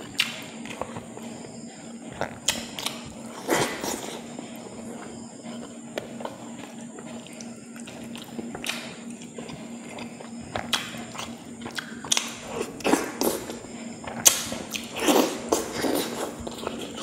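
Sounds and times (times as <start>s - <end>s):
low hum: 0.0s - 17.0s
mouth chewing and smacking: 0.0s - 17.0s.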